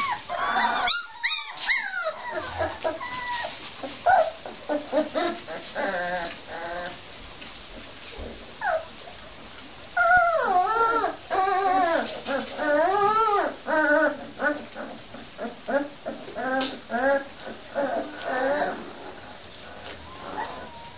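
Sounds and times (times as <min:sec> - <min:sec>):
puppies whimpering: 0:00.0 - 0:07.0, 0:08.2 - 0:09.2, 0:10.0 - 0:20.9.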